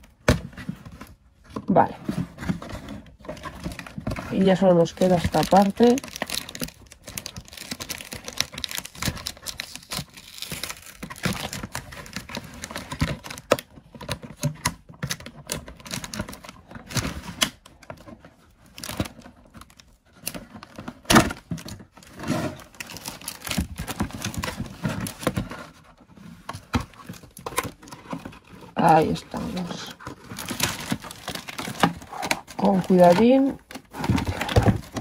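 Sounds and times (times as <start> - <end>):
plastic packaging crinkling: 2.5 - 35.0.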